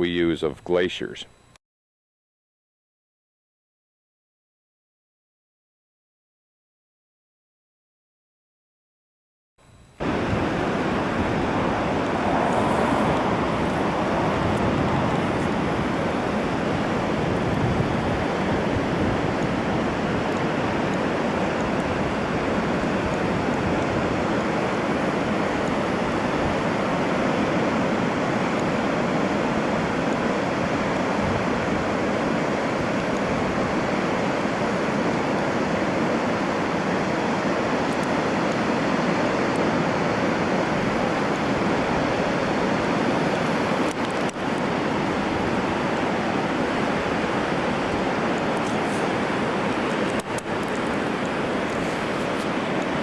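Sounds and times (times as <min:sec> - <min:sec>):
steady rushing noise: 0:10.0 - 0:53.0.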